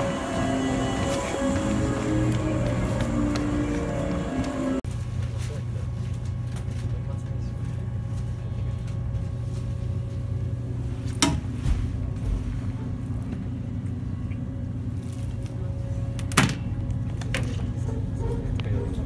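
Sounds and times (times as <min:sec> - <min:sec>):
train interior hum: 0:00.0 - 0:19.0.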